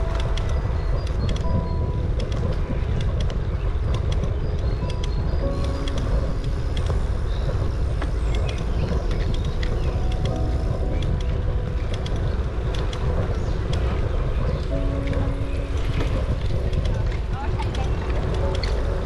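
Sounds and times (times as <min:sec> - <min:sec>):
bicycle rumble on paved path: 0:00.0 - 0:19.0
light ticks: 0:00.0 - 0:19.0
wind noise: 0:00.0 - 0:19.0.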